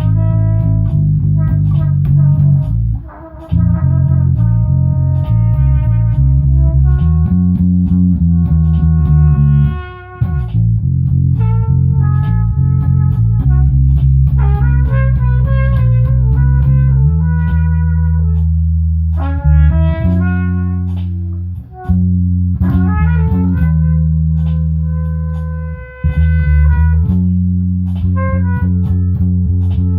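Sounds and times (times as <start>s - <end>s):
band jamming: 0.0s - 29.9s
low bass line: 0.0s - 29.9s.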